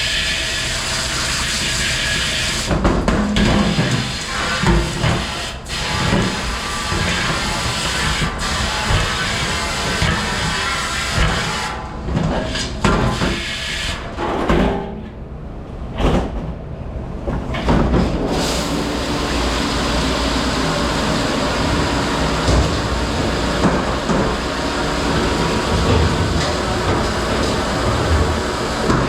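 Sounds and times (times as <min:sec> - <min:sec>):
dishwashing machine rushing wash: 0:00.0 - 0:29.0.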